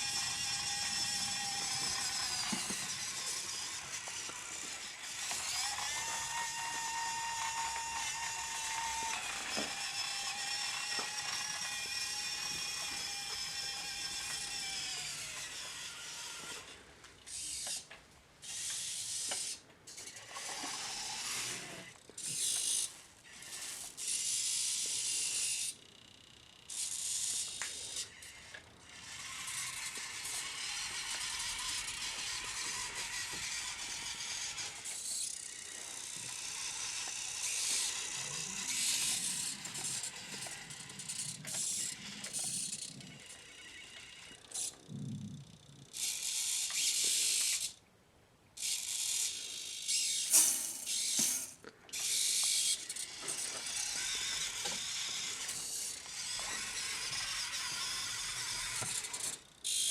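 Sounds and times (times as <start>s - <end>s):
toy truck electric motor whining: 0.0s - 47.9s, 48.6s - 59.9s.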